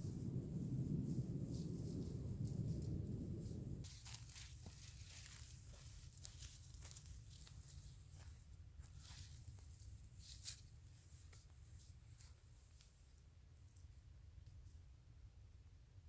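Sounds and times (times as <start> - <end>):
faint crackles: 0.0 - 15.0
low steady rumble: 0.0 - 16.0.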